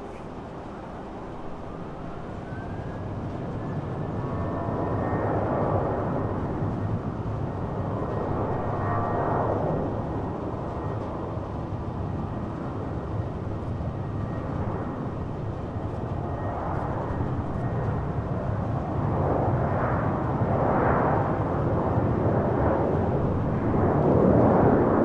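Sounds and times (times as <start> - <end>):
jet engines rumbling and whining: 0.0 - 25.0.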